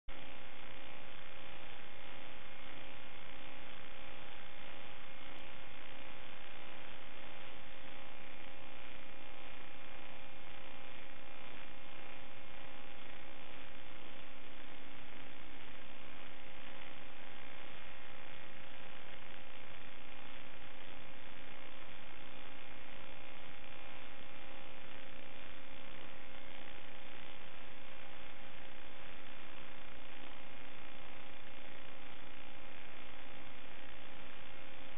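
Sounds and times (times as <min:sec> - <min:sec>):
electronic hiss and hum: 0:00.1 - 0:34.9.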